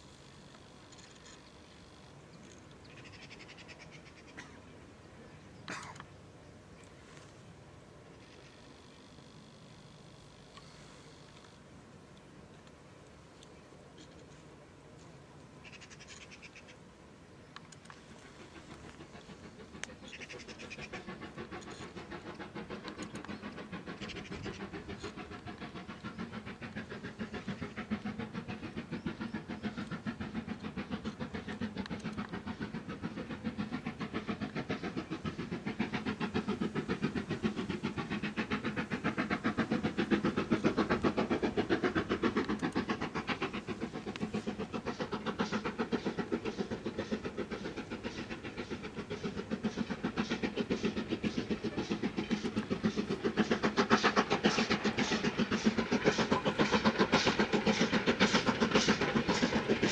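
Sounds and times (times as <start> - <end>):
steam locomotive chuffing: 0.0 - 59.9.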